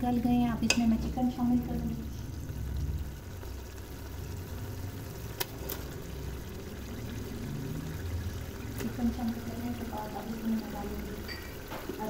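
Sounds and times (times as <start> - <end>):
pot simmering rumble: 0.0 - 12.0.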